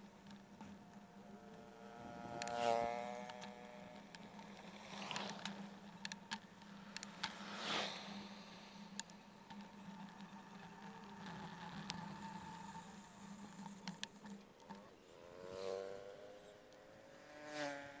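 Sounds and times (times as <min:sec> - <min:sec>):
scattered clicks: 0:00.0 - 0:14.9
steady low hum: 0:00.0 - 0:15.6
vehicles passing on road: 0:00.0 - 0:18.0.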